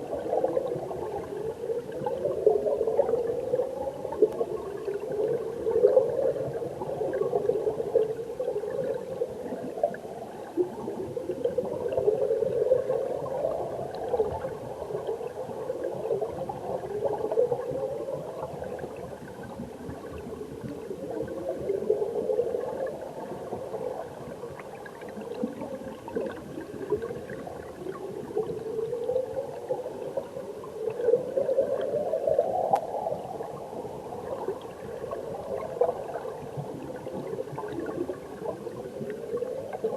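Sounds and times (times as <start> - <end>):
underwater stream gurgling: 0.0 - 39.9.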